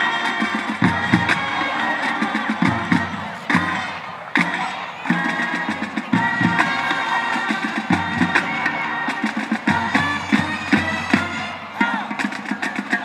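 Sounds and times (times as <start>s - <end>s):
brass horns and sousaphones: 0.0s - 13.0s
drum line: 0.0s - 13.0s
marching band playing: 0.0s - 13.0s.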